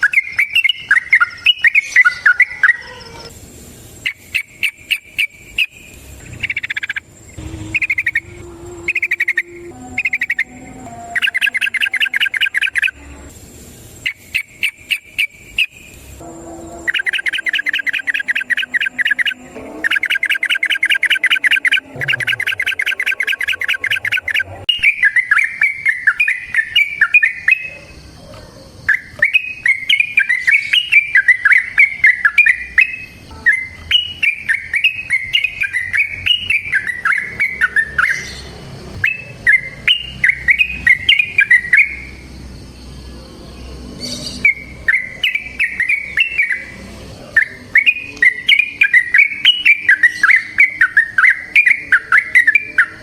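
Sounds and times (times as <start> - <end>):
bulbul singing: 0.0 - 3.4, 4.0 - 13.3, 13.9 - 53.0.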